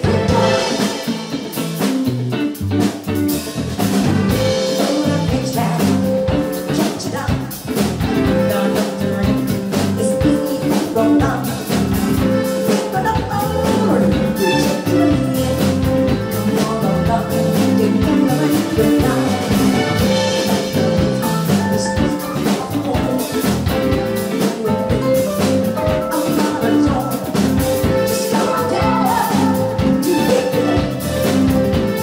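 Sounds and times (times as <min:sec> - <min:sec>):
drum kit beat: 0:00.0 - 0:32.0
electric guitar: 0:00.0 - 0:32.0.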